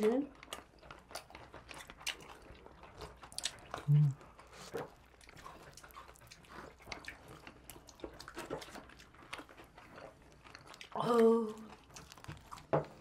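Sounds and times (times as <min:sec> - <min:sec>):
chewing crunchy pizza: 0:00.0 - 0:13.0.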